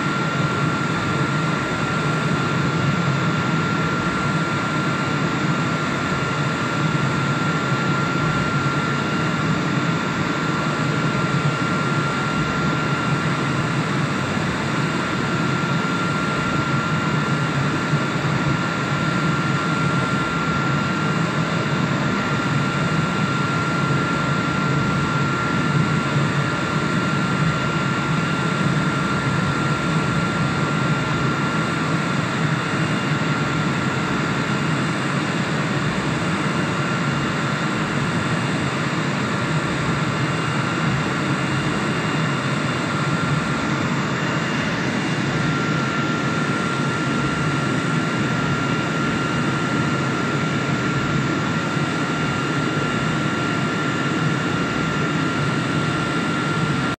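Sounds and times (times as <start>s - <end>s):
router spindle whine: 0.0s - 57.0s.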